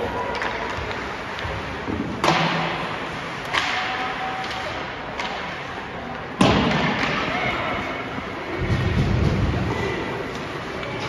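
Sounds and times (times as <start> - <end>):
hockey sticks and puck cracking: 0.0 - 7.9, 8.6 - 11.0.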